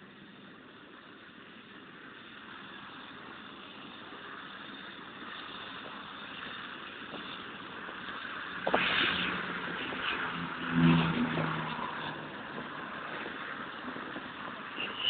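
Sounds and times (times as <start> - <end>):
turboprop airliner taking off: 0.0 - 14.8.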